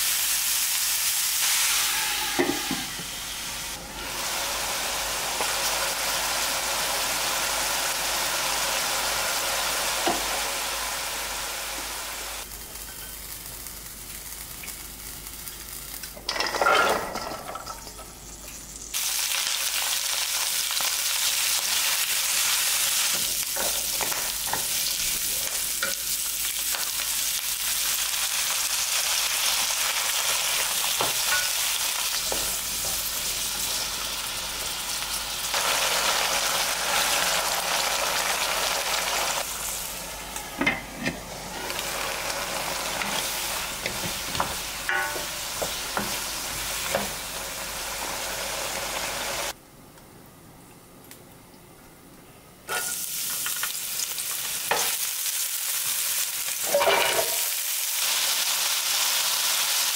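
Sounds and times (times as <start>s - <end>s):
food sizzling in a wok: 0.0s - 17.4s, 18.3s - 49.6s, 52.7s - 59.9s.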